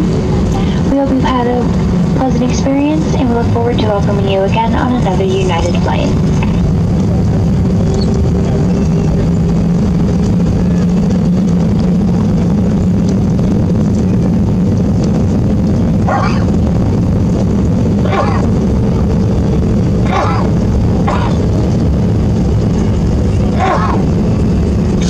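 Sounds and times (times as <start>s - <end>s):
aircraft engines idling rumble: 0.0s - 25.0s.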